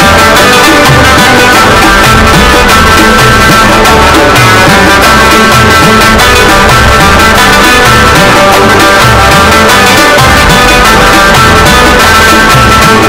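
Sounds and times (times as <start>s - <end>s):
music with steady beat and bass: 0.0s - 13.0s.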